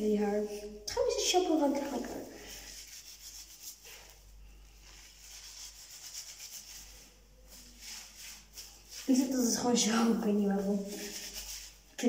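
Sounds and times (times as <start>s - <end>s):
hands rubbing shampoo into wet hair: 1.0s - 12.0s.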